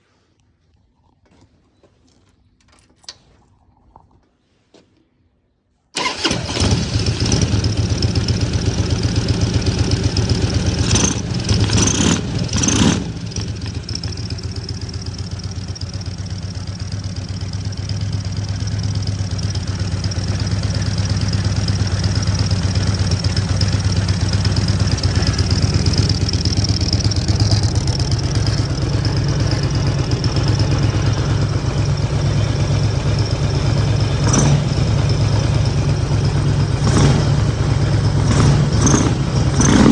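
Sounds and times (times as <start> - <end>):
car engine idling: 6.0 - 39.9.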